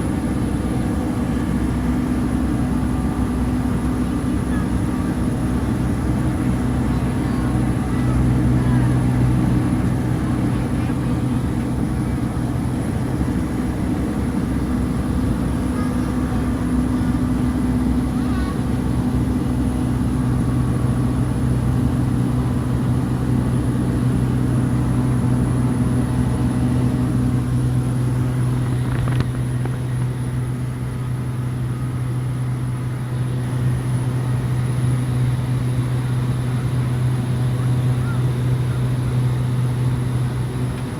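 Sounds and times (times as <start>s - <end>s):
propeller engine drone in cabin: 0.0s - 40.9s.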